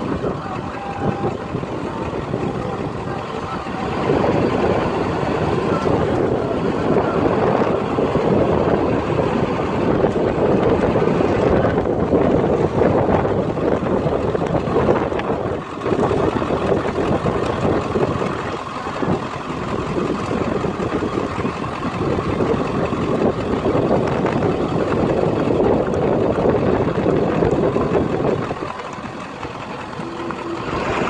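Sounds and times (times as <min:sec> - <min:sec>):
road noise: 0:00.0 - 0:31.0
slow vehicle rumble: 0:00.0 - 0:31.0
wind buffeting microphone: 0:00.0 - 0:31.0.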